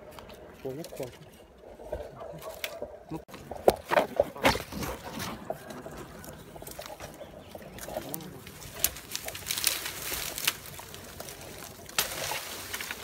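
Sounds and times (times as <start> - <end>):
branches and leaves rustling: 0.0 - 13.0
branches snapping: 0.1 - 13.0.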